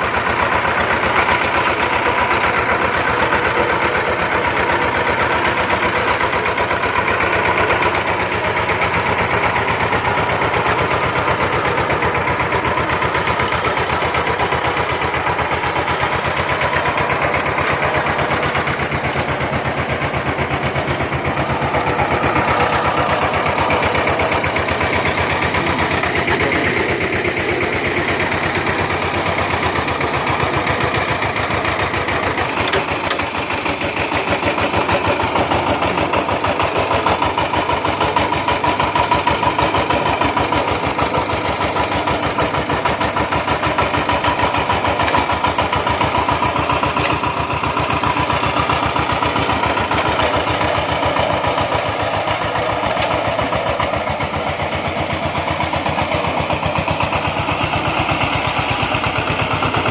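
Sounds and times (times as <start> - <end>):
tiller diesel engine running: 0.0 - 59.9.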